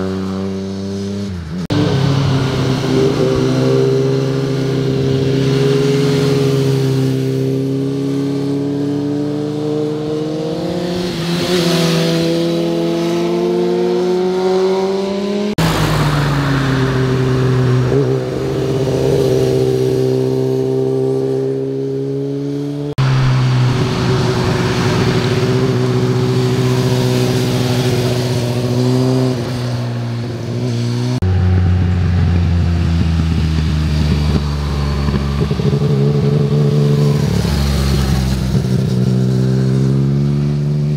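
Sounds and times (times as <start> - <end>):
motorcycle engines accelerating past: 0.0 - 40.9.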